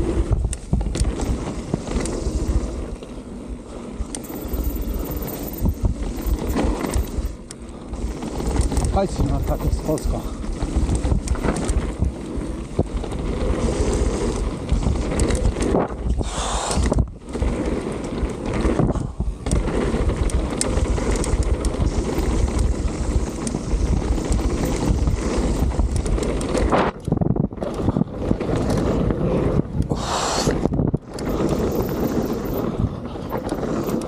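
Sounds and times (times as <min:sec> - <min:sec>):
bike clicks and rattles: 0:00.0 - 0:34.0
bike tyres rolling on dirt: 0:00.0 - 0:34.0
wind buffeting microphone: 0:00.0 - 0:34.0.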